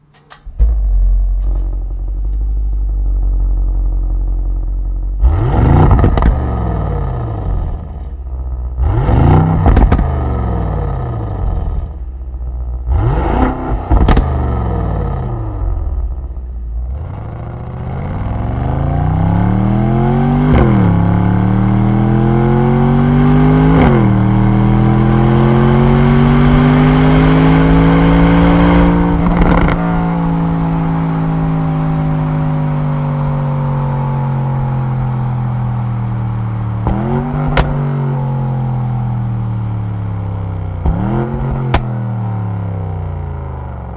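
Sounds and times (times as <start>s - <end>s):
car engine idling: 0.0s - 22.2s, 28.8s - 43.9s
engine throttle blips: 0.0s - 43.9s
car accelerating with upshifts: 5.2s - 12.1s, 12.7s - 43.9s.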